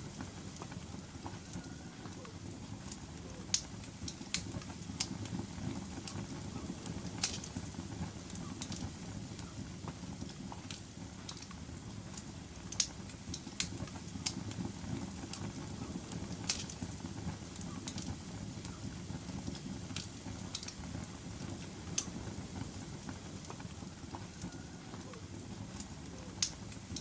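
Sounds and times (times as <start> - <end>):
fire crackling and popping: 0.0 - 27.0
fire rumbling: 0.0 - 27.0.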